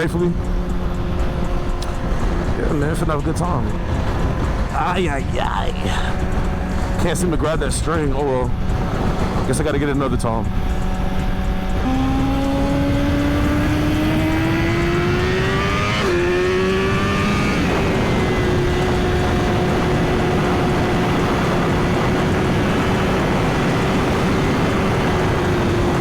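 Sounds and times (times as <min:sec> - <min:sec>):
motorcycle engine revving: 0:00.0 - 0:26.0
wind rush: 0:01.0 - 0:26.0.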